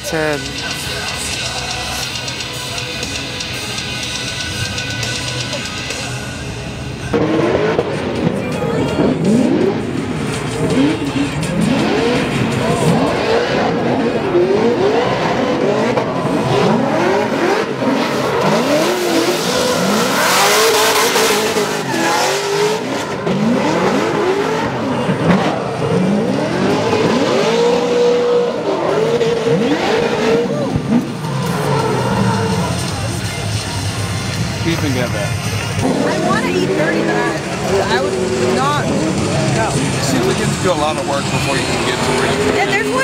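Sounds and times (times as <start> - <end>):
car engines revving hard: 0.0 - 43.0.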